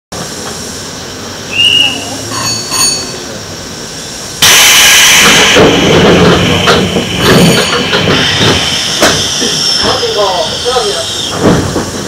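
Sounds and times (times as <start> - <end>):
loud steady hiss: 0.2 - 2.4, 3.1 - 12.0.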